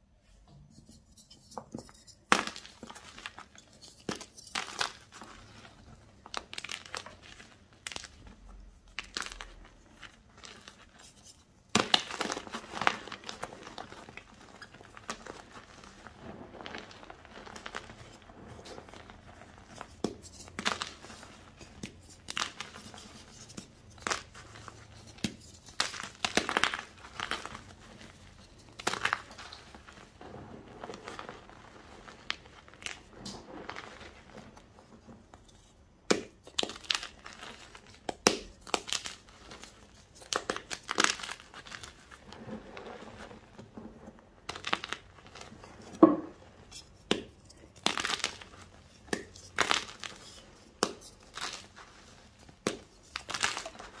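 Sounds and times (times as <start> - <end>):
hands crumbling chalk: 0.8 - 54.0.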